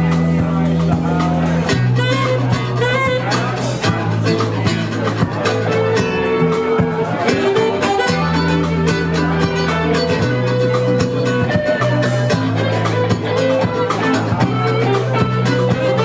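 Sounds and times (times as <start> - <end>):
bass line: 0.0 - 16.0
drum beat: 0.0 - 16.0
guitar: 0.0 - 16.0
live band instrumental: 0.0 - 16.0.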